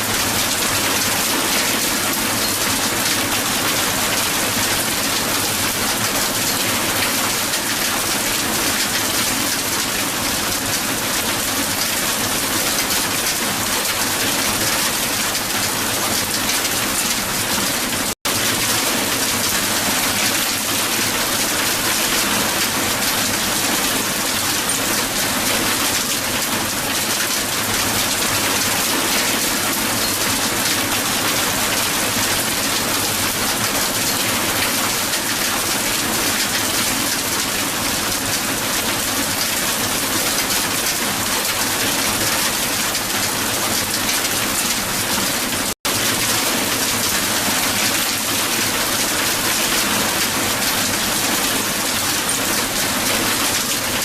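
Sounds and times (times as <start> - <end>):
hail falling on ground: 0.0 - 54.0.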